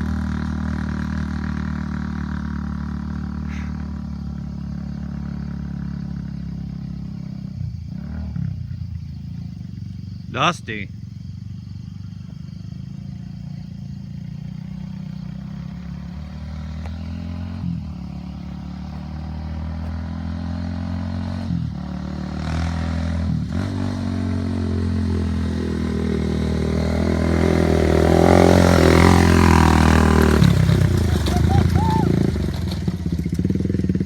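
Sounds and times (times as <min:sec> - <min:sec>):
three-wheeler engine revving: 0:00.0 - 0:34.0.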